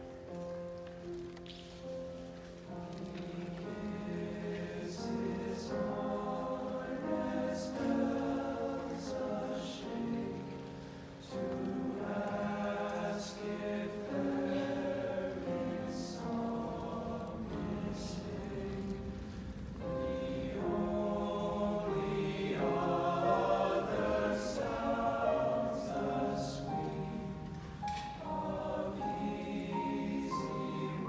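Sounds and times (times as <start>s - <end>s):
piano accompaniment: 0.0s - 31.0s
male choir singing: 3.0s - 31.0s.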